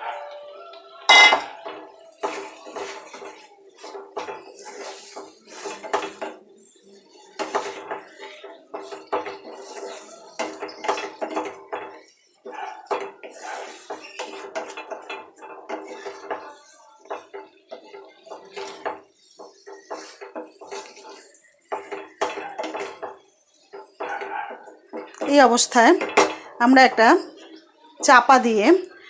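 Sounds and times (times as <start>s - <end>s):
spatula scraping a cooking pan: 1.1s - 28.7s.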